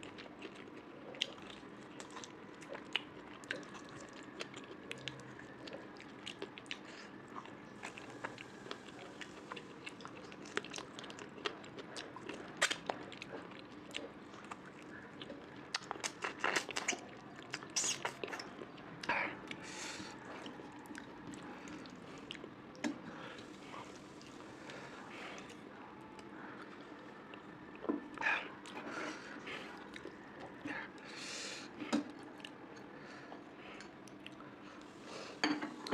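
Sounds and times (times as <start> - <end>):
food crunching: 0.0 - 30.8
person chewing food: 0.0 - 35.9.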